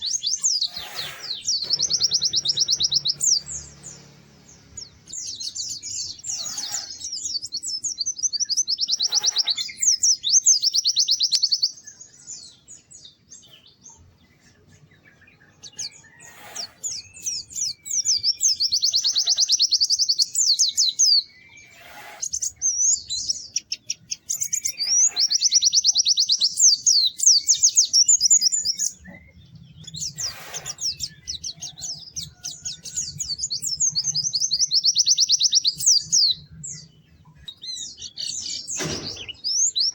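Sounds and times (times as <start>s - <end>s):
bird warbling high chirps: 0.0s - 39.9s.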